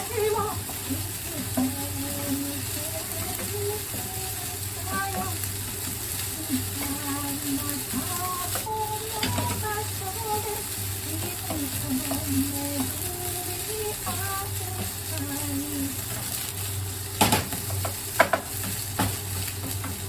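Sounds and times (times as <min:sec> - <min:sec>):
light sizzle: 0:00.0 - 0:20.0.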